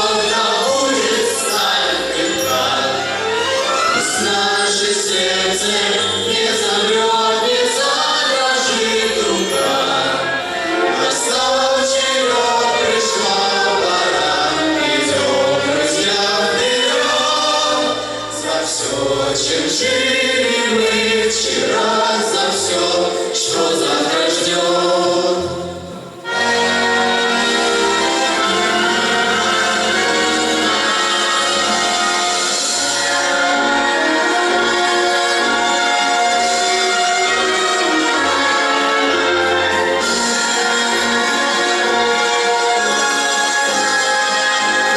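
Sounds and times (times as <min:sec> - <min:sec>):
choir singing: 0:00.0 - 0:44.9
instrumental accompaniment: 0:00.0 - 0:44.9.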